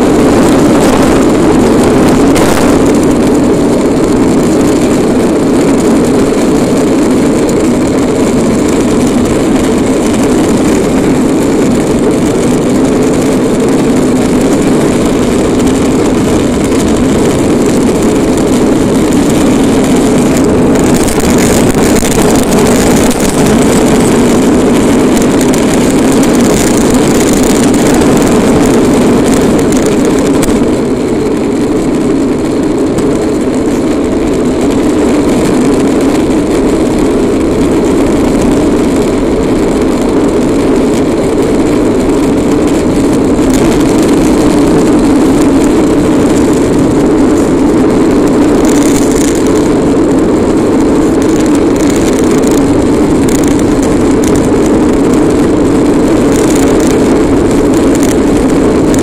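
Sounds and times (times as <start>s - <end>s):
toy car wheels rumbling on asphalt: 0.0s - 59.0s.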